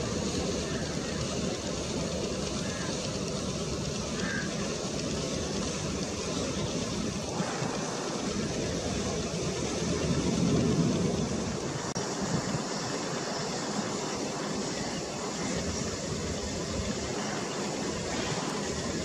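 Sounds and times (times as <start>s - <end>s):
distant jet engines roaring: 0.0s - 19.0s.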